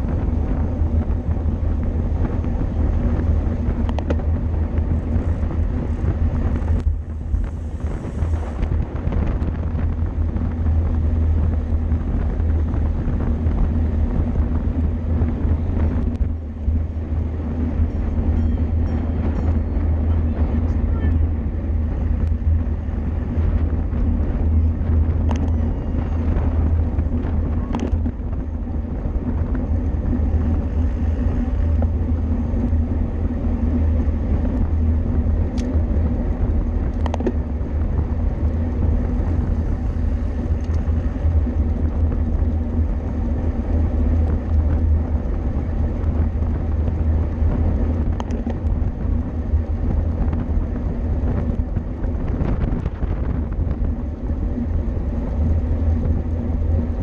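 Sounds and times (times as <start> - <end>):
bicycle road noise: 0.0 - 57.0
wind rumble on microphone: 0.0 - 57.0.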